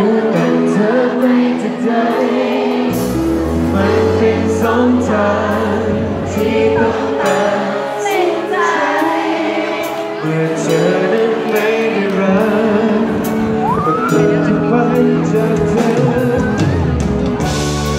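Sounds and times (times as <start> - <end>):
man singing into a microphone: 0.0 - 2.8, 3.6 - 17.1
keyboard: 0.0 - 17.9.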